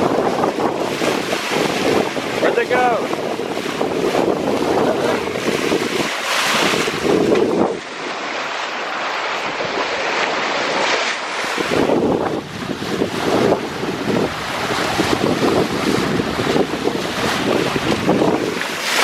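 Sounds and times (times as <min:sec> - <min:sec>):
ocean waves rushing: 0:00.0 - 0:19.0
wind buffeting microphone: 0:00.0 - 0:19.0.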